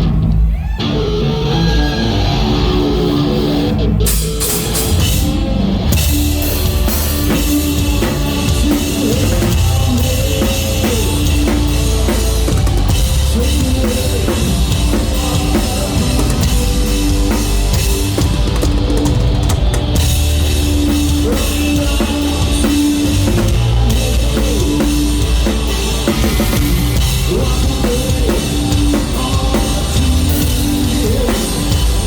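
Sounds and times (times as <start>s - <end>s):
distorted electric guitar: 0.0s - 32.0s
rock band playing: 0.0s - 32.0s
bass drum: 4.7s - 32.0s.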